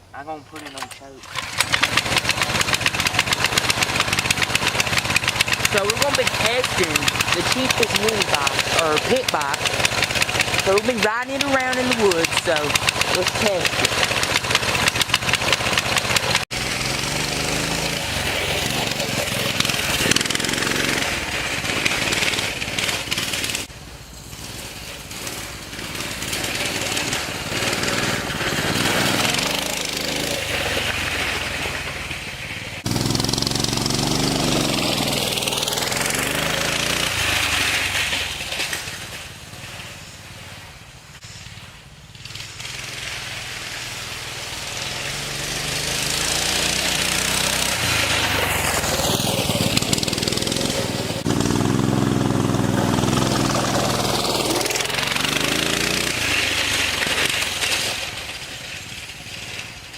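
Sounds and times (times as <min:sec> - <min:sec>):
small motorbike engine revving: 0:00.0 - 0:59.9.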